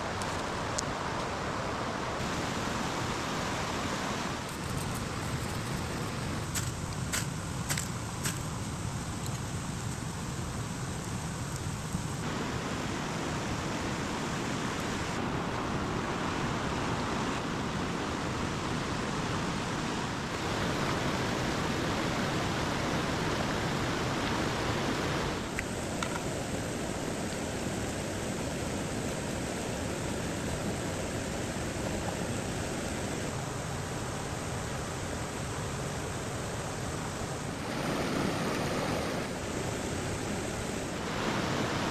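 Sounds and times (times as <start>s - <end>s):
mountain stream rushing: 0.0s - 41.9s.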